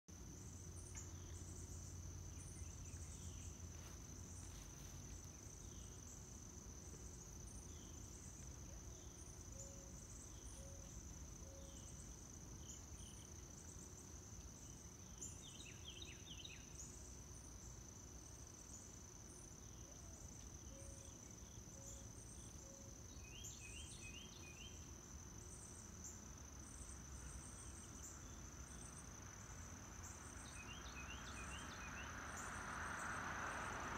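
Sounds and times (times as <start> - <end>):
insect chirping calls: 0.1 - 33.9.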